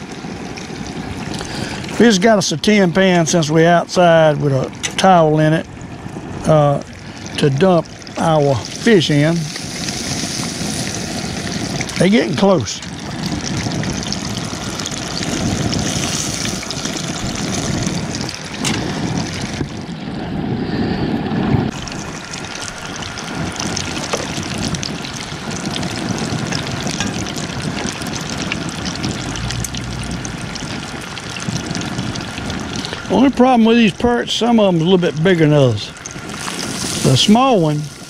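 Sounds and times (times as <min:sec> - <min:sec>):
fish deep-frying with crackles: 0:00.0 - 0:38.0.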